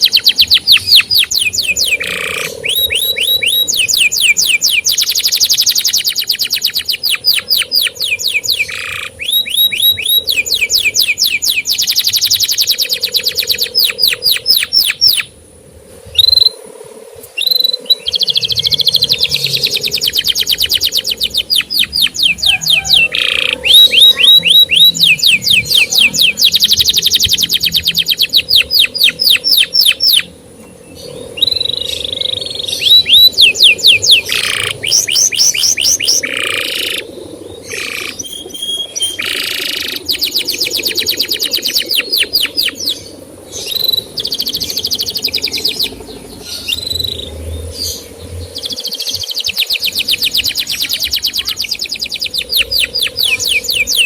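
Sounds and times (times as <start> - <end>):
canary singing trills: 0.0 - 15.4, 17.2 - 54.0.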